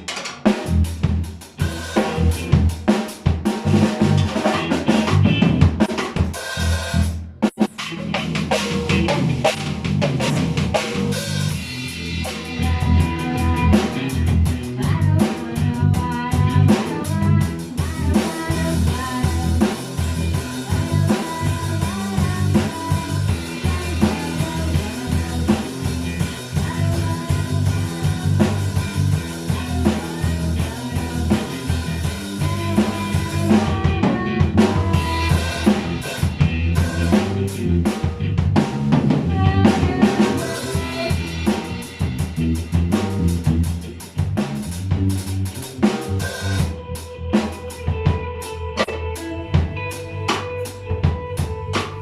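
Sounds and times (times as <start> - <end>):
drum kit beat: 0.0 - 52.0.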